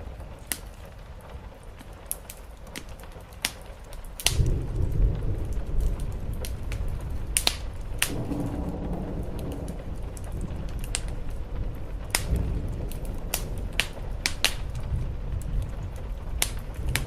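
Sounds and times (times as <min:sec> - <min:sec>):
steady rain: 0:00.0 - 0:17.0
thunder rumbling: 0:00.0 - 0:17.0
wood fire crackling and popping: 0:00.0 - 0:17.0.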